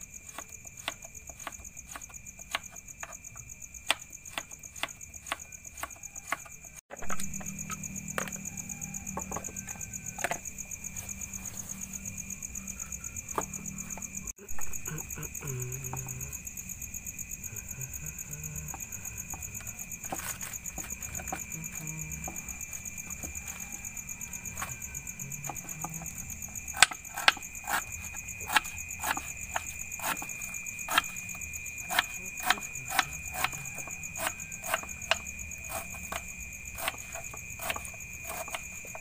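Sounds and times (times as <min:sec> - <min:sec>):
crickets and insects chirping: 0:00.0 - 0:39.0.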